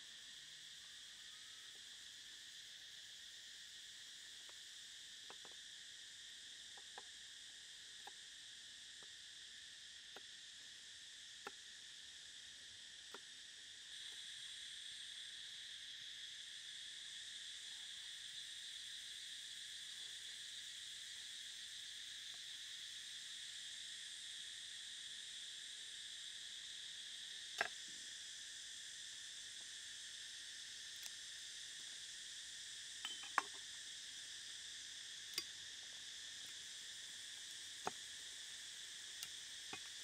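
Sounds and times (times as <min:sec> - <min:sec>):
chorus of insects: 0:00.0 - 0:40.0.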